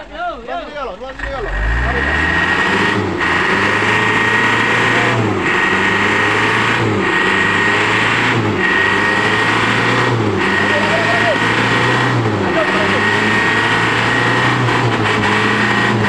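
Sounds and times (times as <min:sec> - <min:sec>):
truck engine under load: 0:00.0 - 0:16.0.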